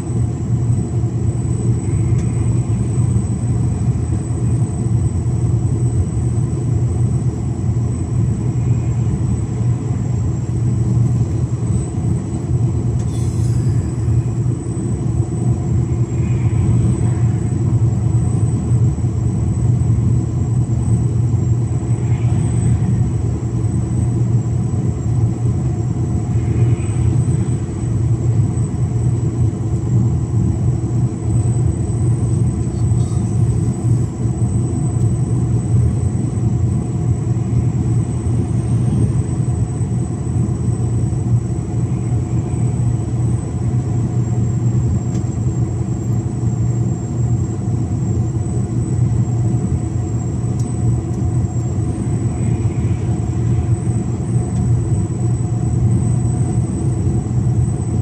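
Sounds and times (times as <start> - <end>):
faint high whine: 0.0 - 58.0.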